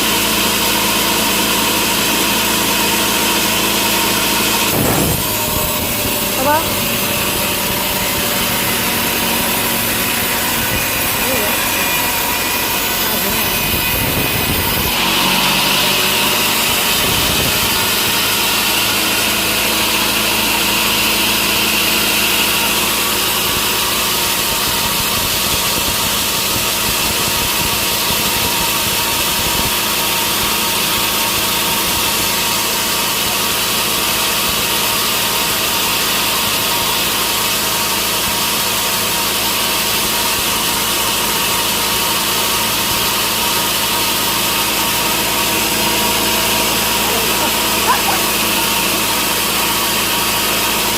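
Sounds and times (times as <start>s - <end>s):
sawmill saw cutting log: 0.0s - 50.9s.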